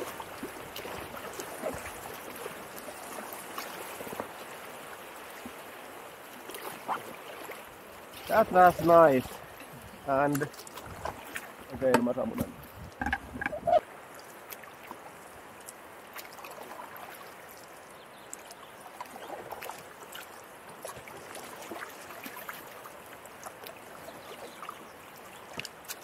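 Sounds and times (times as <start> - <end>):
small splashes: 0.0 - 5.7, 6.3 - 26.0
paddle strokes in water: 0.0 - 26.0
river water lapping: 0.0 - 26.0.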